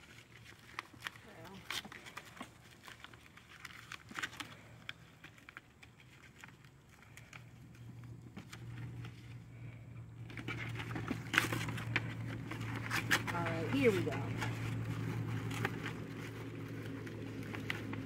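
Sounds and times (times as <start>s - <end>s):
low steady hum: 0.0s - 18.0s
packing paper crinkling: 0.0s - 18.0s.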